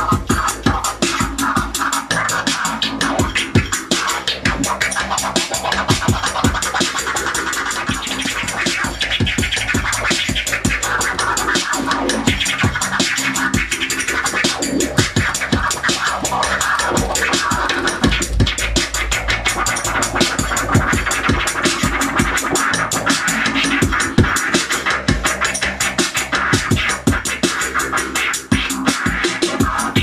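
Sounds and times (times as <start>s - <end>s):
hip hop beat: 0.0s - 30.0s
turntable scratching: 0.0s - 30.0s.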